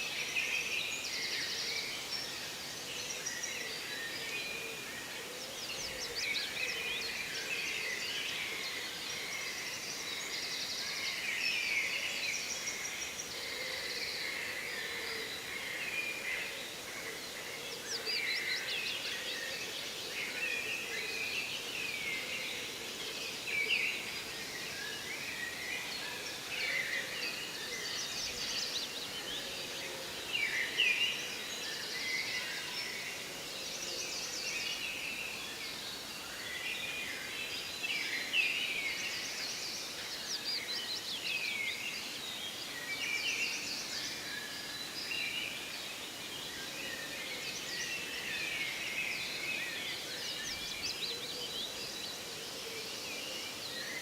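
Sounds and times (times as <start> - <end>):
wild birds chirping and trilling: 0.0 - 54.0.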